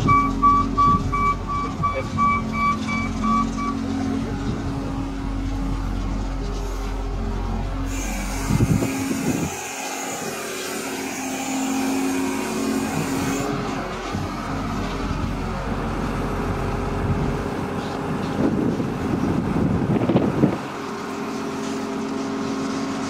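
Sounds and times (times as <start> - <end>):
diesel loader engine running: 0.0 - 23.0.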